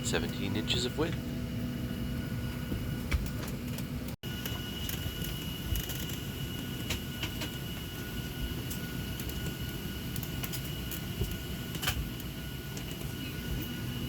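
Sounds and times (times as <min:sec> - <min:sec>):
cabin ventilation hum: 0:00.0 - 0:14.0.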